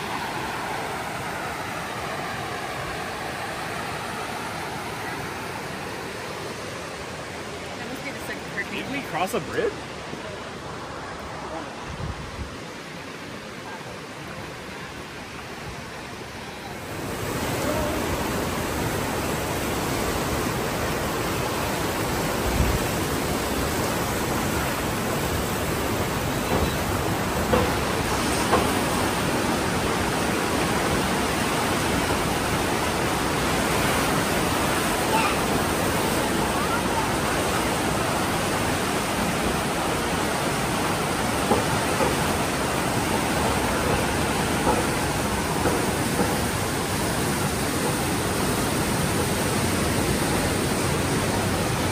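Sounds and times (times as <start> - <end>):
mountain creek rushing: 0.0 - 51.9.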